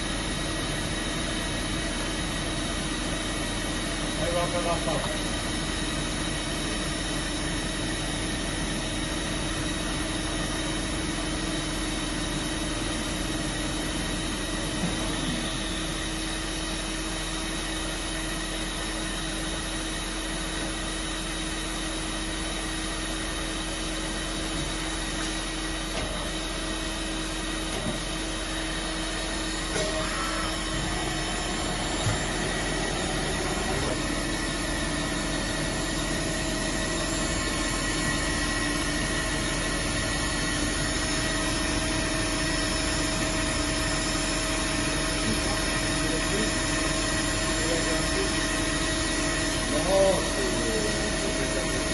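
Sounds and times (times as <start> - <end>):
grinder machine hum: 0.0 - 51.9
high machine whine: 0.0 - 51.9.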